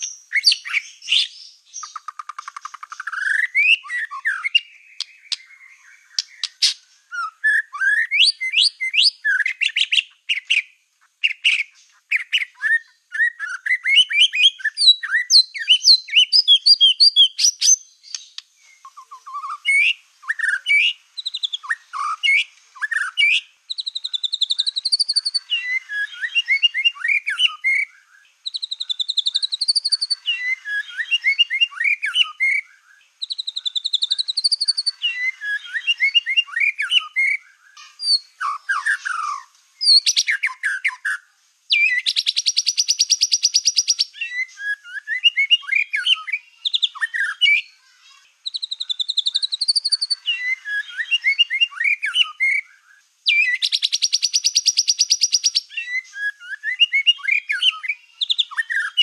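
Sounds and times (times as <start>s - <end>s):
bird singing whistles and trills: 0.0s - 59.0s.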